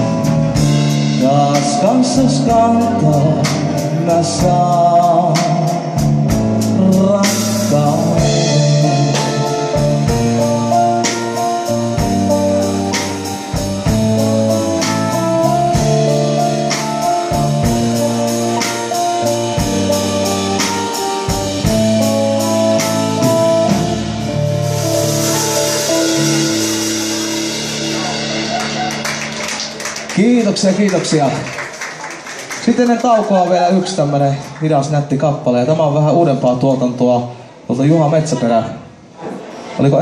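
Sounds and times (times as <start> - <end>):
live band playing instrumental: 0.0 - 34.6.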